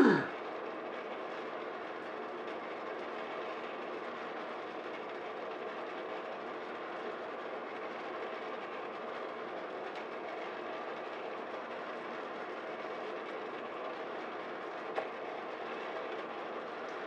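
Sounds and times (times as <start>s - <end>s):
oven fan whirring: 0.0s - 17.0s.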